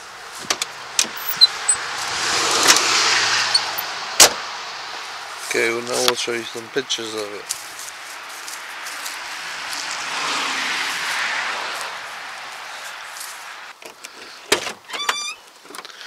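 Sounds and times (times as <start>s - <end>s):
vehicle passing: 0.0s - 13.7s.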